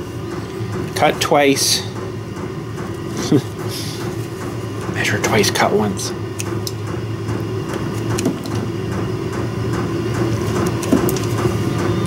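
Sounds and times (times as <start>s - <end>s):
shop heater humming: 0.0s - 12.0s.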